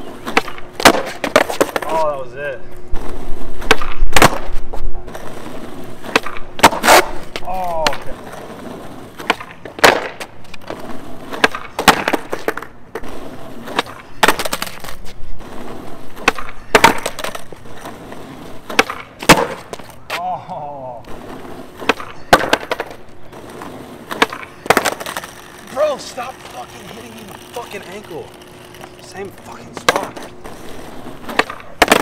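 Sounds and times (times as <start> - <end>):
skateboard popping and clacking: 0.0 - 2.0, 3.6 - 20.2, 21.0 - 32.0
skateboard wheels rolling: 0.0 - 32.0.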